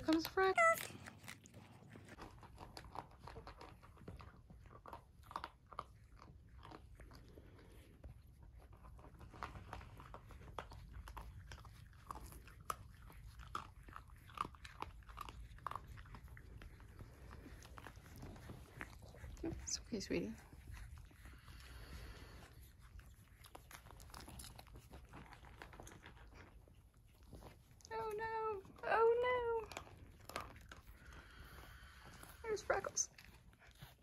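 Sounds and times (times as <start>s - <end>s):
dog crunching dry kibble: 0.0s - 34.0s.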